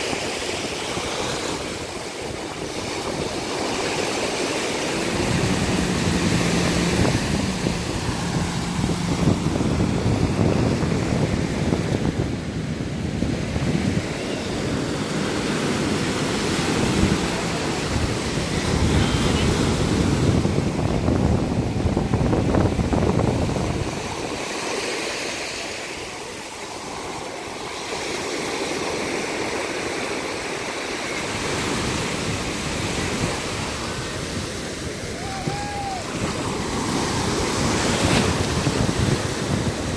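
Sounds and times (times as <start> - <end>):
wind buffeting microphone: 0.0 - 25.0, 31.2 - 39.9
surf washing over sand: 0.0 - 39.9.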